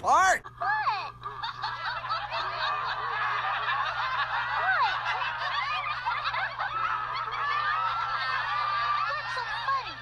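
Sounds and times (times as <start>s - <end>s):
cartoon characters laughing: 0.0s - 10.0s
low steady hum: 0.0s - 10.0s.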